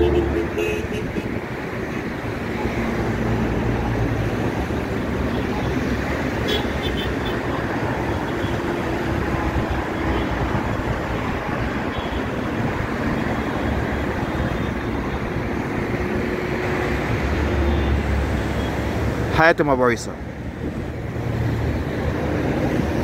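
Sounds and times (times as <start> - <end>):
road traffic engine hum: 0.0 - 23.0.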